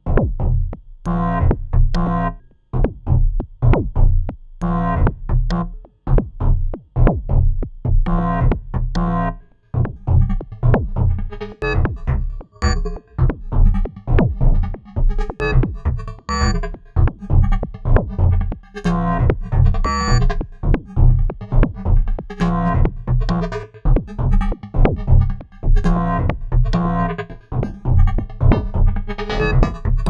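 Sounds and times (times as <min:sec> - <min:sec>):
pulsing low bass: 0:00.0 - 0:30.0.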